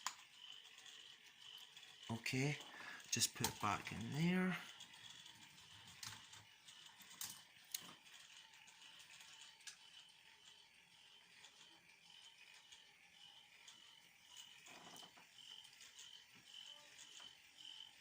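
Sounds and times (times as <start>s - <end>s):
toy chain lift rattling: 0.0s - 18.0s.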